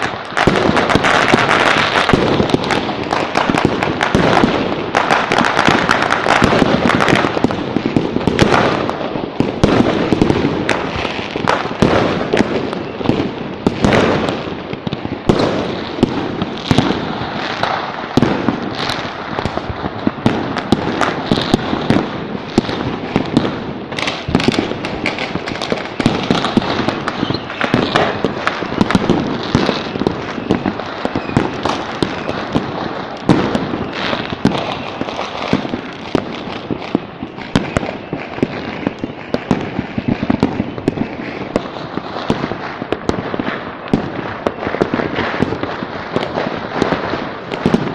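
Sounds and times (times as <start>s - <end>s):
fireworks and firecrackers banging: 0.0s - 47.9s.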